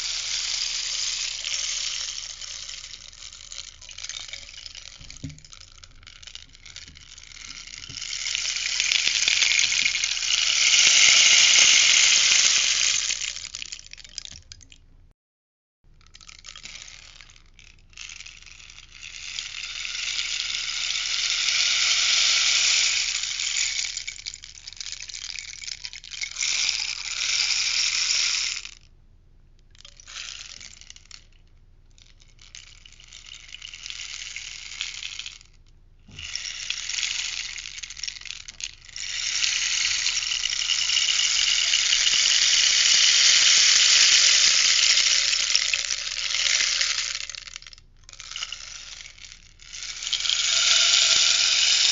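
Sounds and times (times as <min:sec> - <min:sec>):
rainstick rattling: 0:00.0 - 0:14.8, 0:15.9 - 0:28.9, 0:29.6 - 0:51.9.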